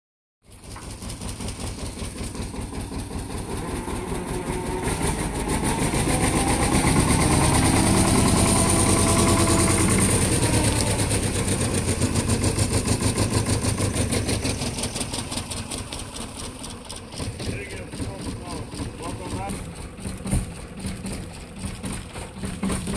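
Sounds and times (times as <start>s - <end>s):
tractor engine idling: 0.4s - 22.9s.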